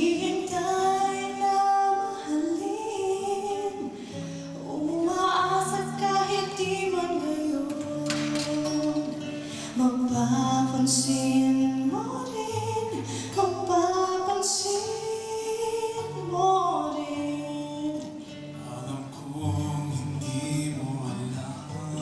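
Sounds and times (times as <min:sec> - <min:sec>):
strummed acoustic guitars: 0:00.0 - 0:22.0
woman and man singing: 0:00.0 - 0:22.0.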